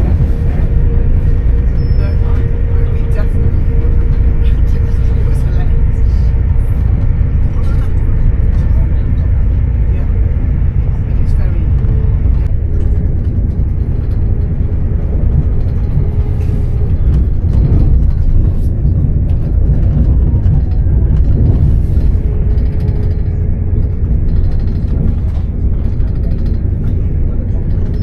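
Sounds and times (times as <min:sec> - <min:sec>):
faint voices: 0:00.0 - 0:28.0
vehicle rumble: 0:00.0 - 0:28.0.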